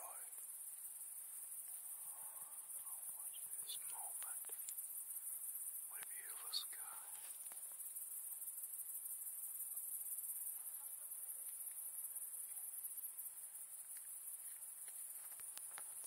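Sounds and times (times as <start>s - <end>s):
crickets chirring: 0.0s - 16.0s
faint ticks: 0.0s - 16.0s.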